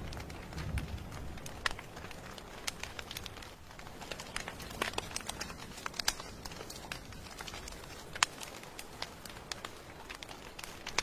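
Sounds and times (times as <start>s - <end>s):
rain hissing: 0.0s - 11.0s
wood fire crackling and popping: 0.0s - 11.0s.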